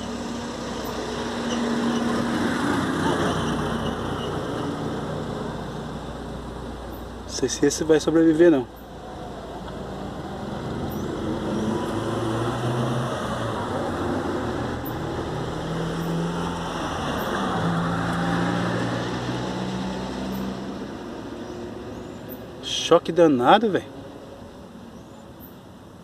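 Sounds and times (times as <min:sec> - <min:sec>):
vehicle engine hum and road noise: 0:00.0 - 0:26.0.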